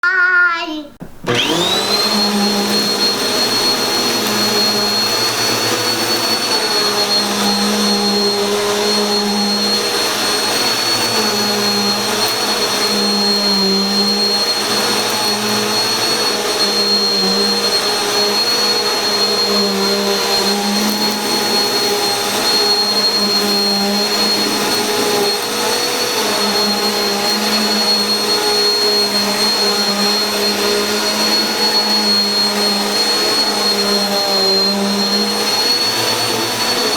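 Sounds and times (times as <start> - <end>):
vacuum cleaner running: 1.0 - 36.9.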